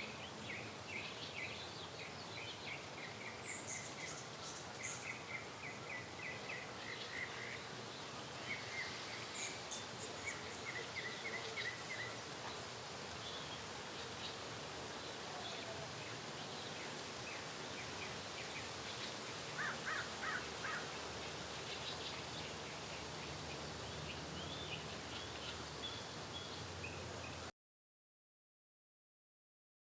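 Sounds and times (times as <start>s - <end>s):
outdoor background hiss: 0.0s - 27.5s.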